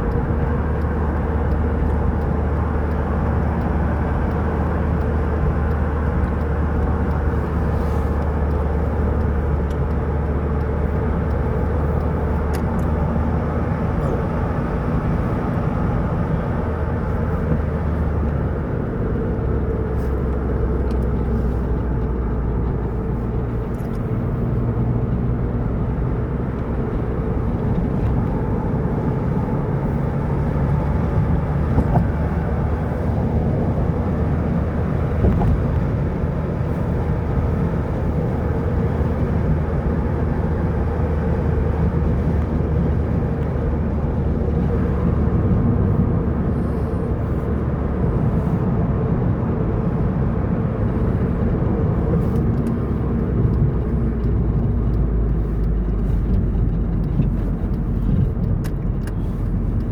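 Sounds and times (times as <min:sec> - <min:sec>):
road vehicle engine and tyre drone: 0:00.0 - 0:59.9.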